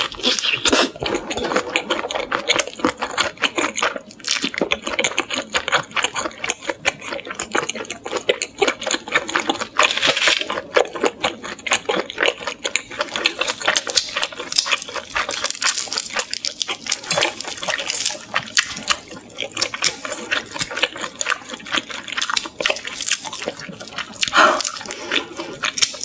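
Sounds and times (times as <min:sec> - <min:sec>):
chewing shrimp: 0:00.0 - 0:26.0.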